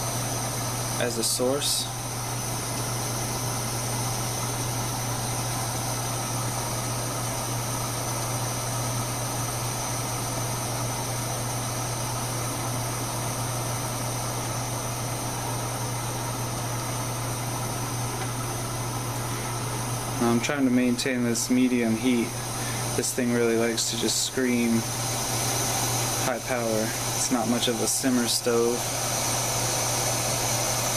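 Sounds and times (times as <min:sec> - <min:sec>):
camping stove burning: 0:00.0 - 0:30.9.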